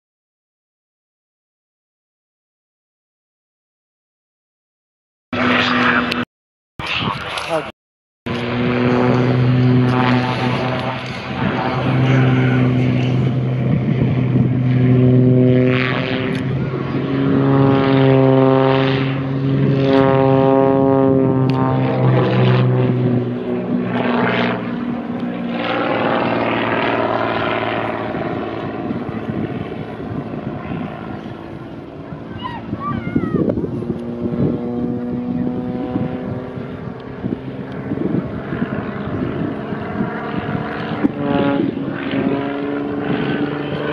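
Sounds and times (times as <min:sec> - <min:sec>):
propeller plane engine drone: 0:05.3 - 0:07.7, 0:08.3 - 0:43.9.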